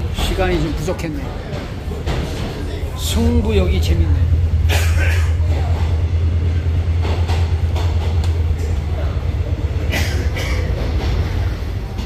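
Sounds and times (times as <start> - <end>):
train rumbling in tunnel: 0.0 - 12.0
wheels clacking on rails: 0.0 - 12.0.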